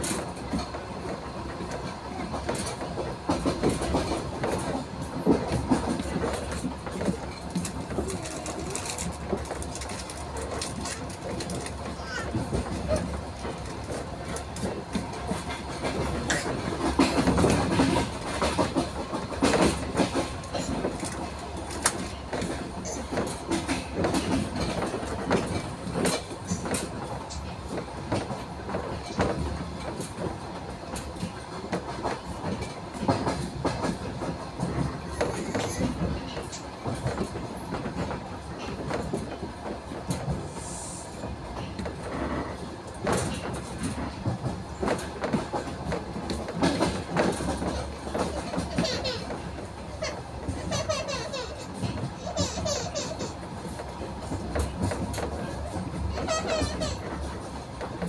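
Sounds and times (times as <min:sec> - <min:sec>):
train rumbling and rushing: 0:00.0 - 0:58.0
wheels clicking over rail joints: 0:00.0 - 0:58.0.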